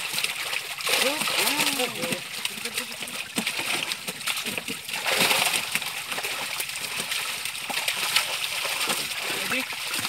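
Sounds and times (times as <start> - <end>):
fish thrashing and splashing: 0.0 - 10.0.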